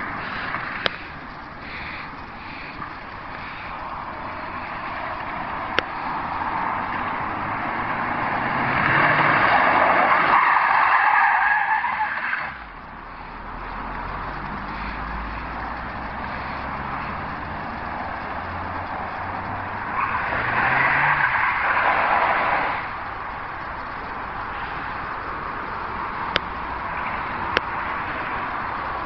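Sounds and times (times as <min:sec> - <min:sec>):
car engine humming: 0:00.0 - 0:29.0
car tyres squealing: 0:00.0 - 0:29.0.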